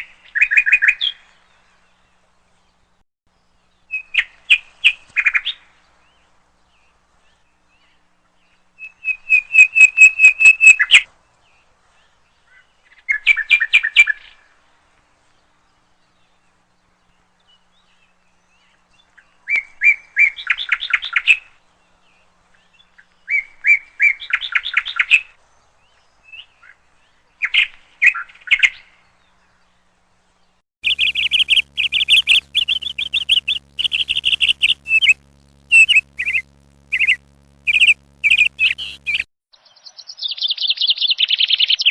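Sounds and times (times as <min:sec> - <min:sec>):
songbird singing: 0:00.2 - 0:14.3, 0:15.3 - 0:41.9.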